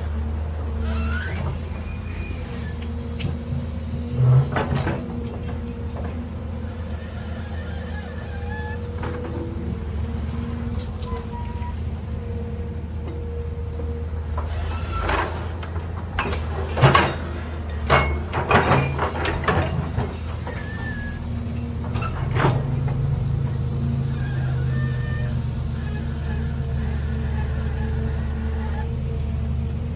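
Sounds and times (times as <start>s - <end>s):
heavy diesel engine running: 0.0s - 29.9s
metallic clanks and knocks: 0.8s - 11.7s, 14.2s - 28.8s
high squeal: 0.8s - 12.4s, 14.4s - 15.6s, 16.2s - 28.9s.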